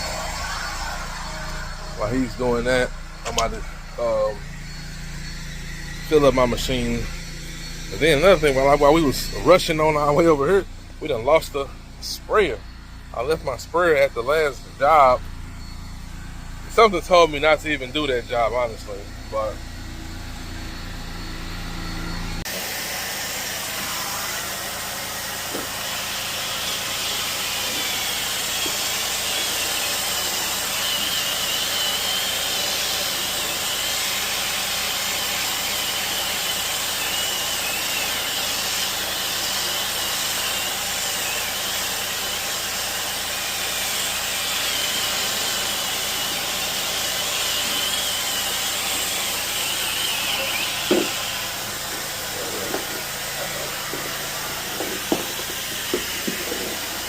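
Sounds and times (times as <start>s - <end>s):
cleaning machine rushing noise: 0.0s - 57.0s.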